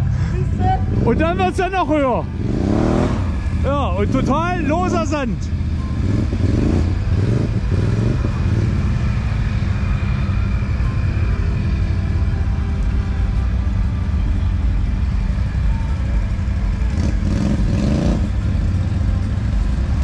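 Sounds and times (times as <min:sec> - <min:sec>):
distant engines: 0:00.0 - 0:20.0
vehicle engine running steadily: 0:00.0 - 0:20.0.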